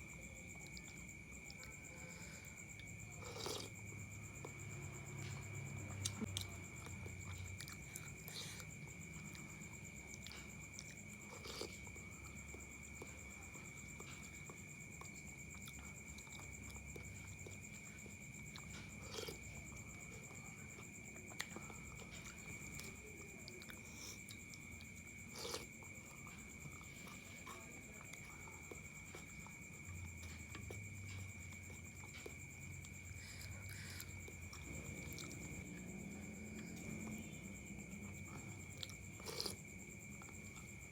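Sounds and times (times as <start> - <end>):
quiet chewing: 0.0 - 40.9.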